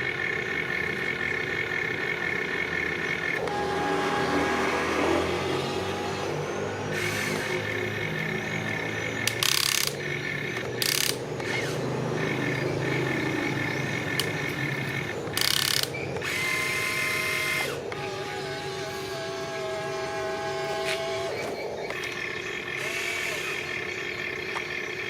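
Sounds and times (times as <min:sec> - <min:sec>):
electric motors whining and whirring: 0:00.0 - 0:25.0.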